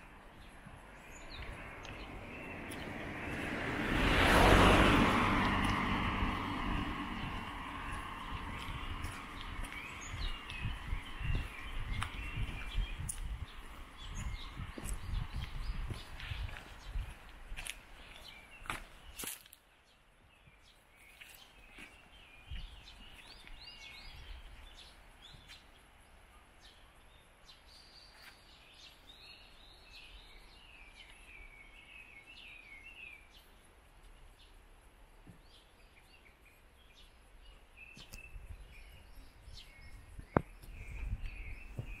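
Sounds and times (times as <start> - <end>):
quiet outdoor background noise: 0.0 - 42.0
small birds chirping: 0.0 - 42.0.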